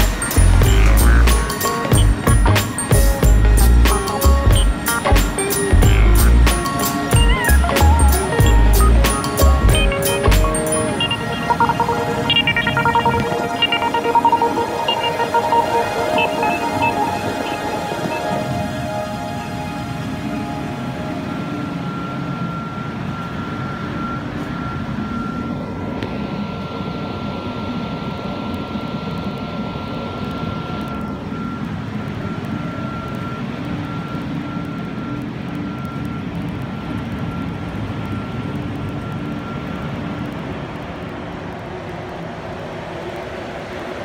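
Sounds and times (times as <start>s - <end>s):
industrial drone of machinery: 0.0s - 44.0s
thin high whine: 0.0s - 44.0s.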